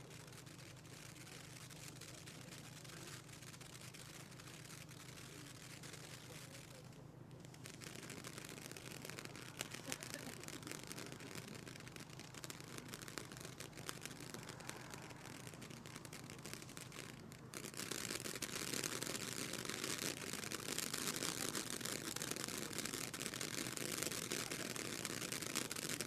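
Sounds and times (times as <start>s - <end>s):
firework fountain hissing and crackling: 0.0s - 26.0s.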